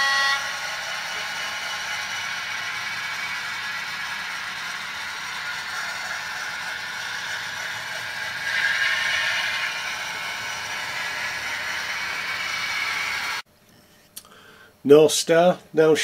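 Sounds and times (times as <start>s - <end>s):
model train whirring on rails: 0.0s - 13.4s.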